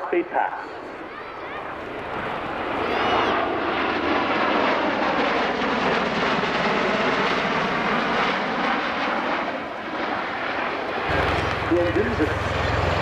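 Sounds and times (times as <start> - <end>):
tiltrotor aircraft roaring past: 0.0 - 13.0.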